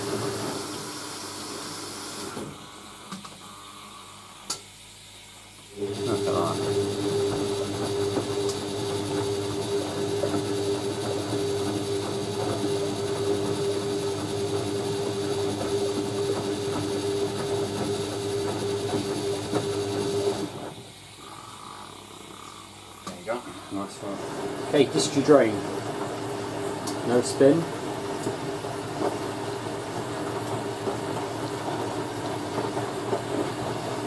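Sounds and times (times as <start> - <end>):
washing machine humming and hissing: 0.0 - 34.0.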